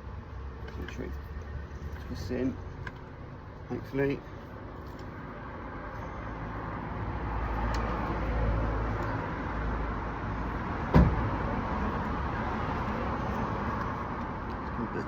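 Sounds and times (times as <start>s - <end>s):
low rumble of passing vehicle: 0.0s - 15.0s.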